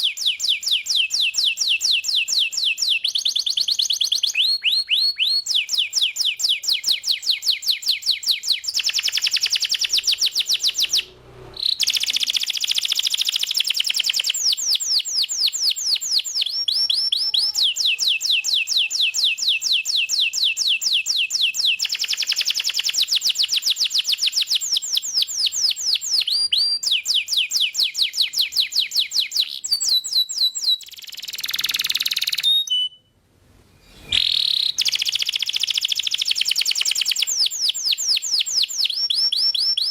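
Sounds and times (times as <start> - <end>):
canary singing trills: 0.0 - 33.1, 33.9 - 39.9.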